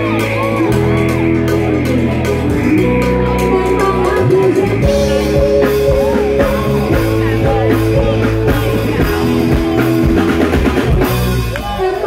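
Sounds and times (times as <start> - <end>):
drum kit steady beat: 0.0 - 12.0
live band music over a pa: 0.0 - 12.0.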